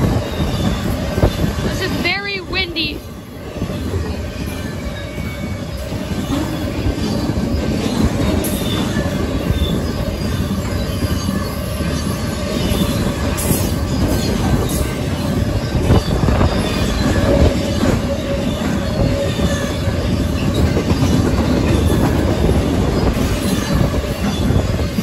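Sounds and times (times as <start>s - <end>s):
freight train cars rolling: 0.0s - 25.0s
train wheel squeal: 0.0s - 25.0s.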